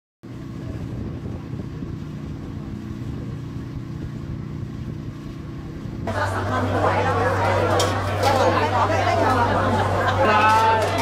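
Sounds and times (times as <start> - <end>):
motorboat engine running: 0.2 - 11.0.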